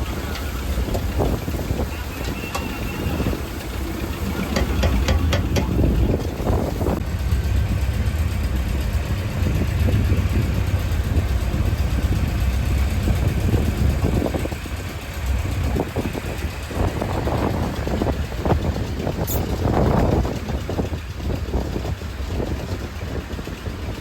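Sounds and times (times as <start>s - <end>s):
boat diesel engine droning: 0.0s - 24.0s.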